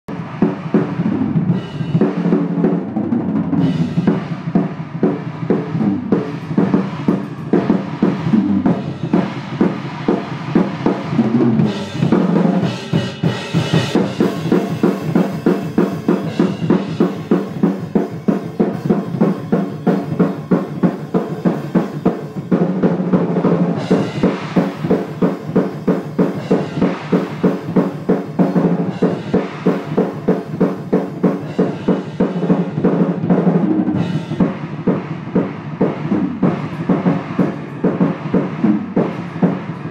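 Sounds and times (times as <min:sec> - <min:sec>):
drum kit played hard: 0:00.1 - 0:39.9.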